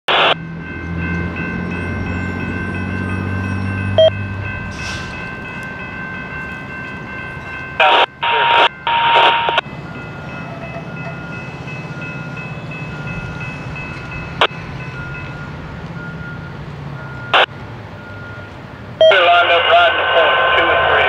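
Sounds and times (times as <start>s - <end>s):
crossing warning bell ringing: 0.1s - 21.0s.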